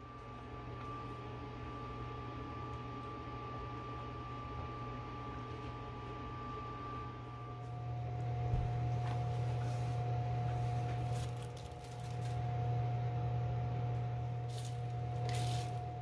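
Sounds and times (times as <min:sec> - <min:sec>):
faint steady whine: 0:00.0 - 0:16.0
low motor hum: 0:00.0 - 0:16.0.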